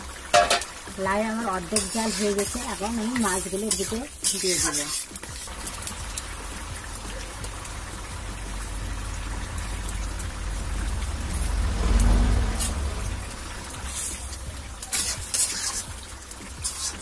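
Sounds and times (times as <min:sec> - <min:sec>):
curry bubbling and simmering: 0:00.0 - 0:17.0.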